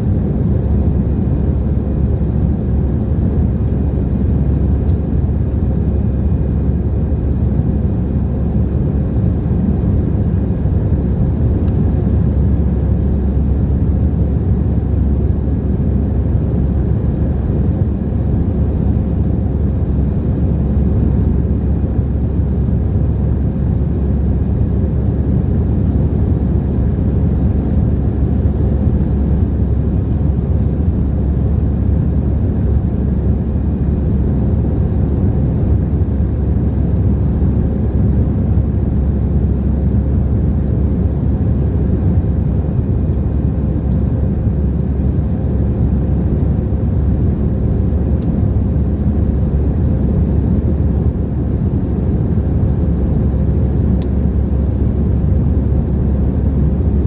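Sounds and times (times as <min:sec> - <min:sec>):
jet cabin rumble: 0:00.0 - 0:57.0.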